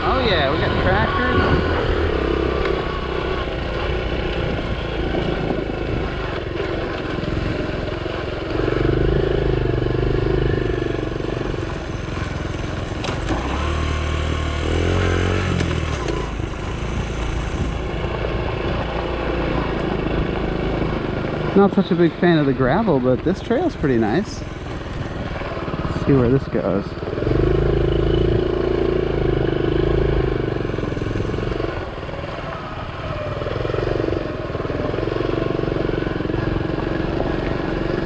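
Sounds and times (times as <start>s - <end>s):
small motorcycle engine running: 0.0s - 38.0s.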